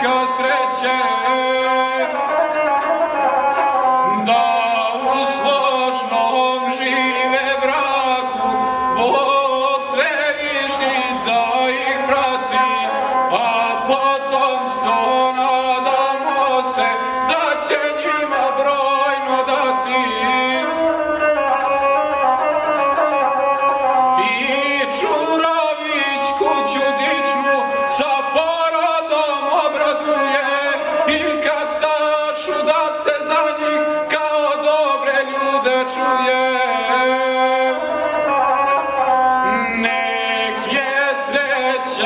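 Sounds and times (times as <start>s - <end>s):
bowed single-string fiddle: 0.0s - 42.0s
man singing: 0.0s - 42.0s.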